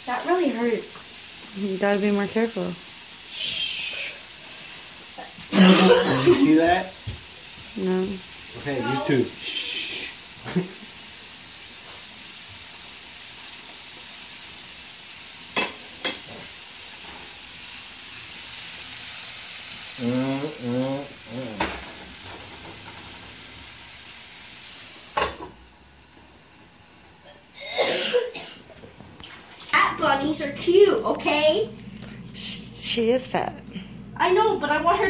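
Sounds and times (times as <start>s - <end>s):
meat sizzling in a frying pan: 0.0s - 28.4s.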